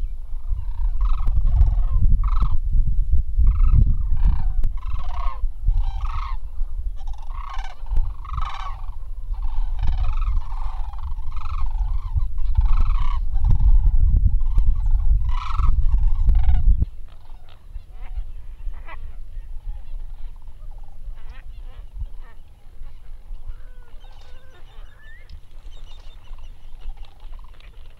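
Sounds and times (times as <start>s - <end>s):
cranes calling: 0.0s - 2.6s, 3.4s - 27.9s
faint bird calls: 0.0s - 2.6s, 3.4s - 27.9s.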